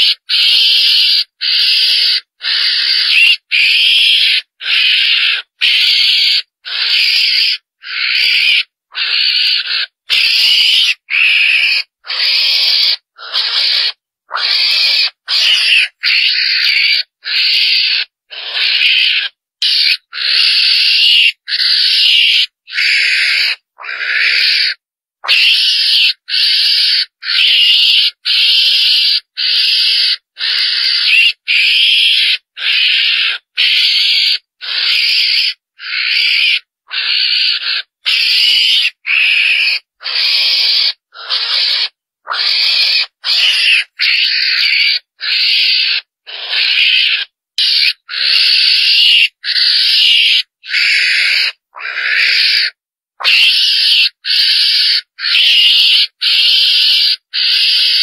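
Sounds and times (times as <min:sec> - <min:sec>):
mongoose calls: 0:00.0 - 0:58.0.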